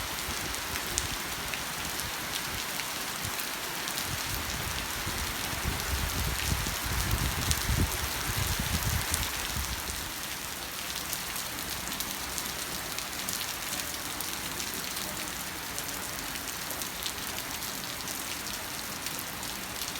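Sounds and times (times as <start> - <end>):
heavy rain falling: 0.0 - 19.9.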